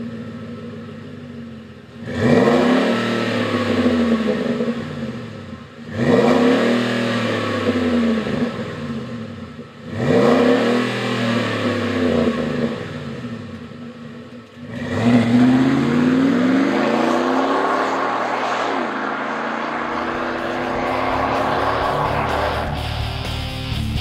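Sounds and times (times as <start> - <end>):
truck engine revving and accelerating: 2.0 - 5.3, 5.9 - 13.4, 14.6 - 24.0.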